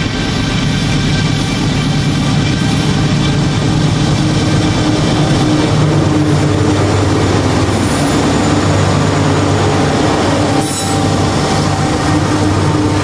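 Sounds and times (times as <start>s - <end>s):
diesel locomotive engine drone: 0.0s - 13.0s
steel wheels rumbling on rail: 0.0s - 13.0s.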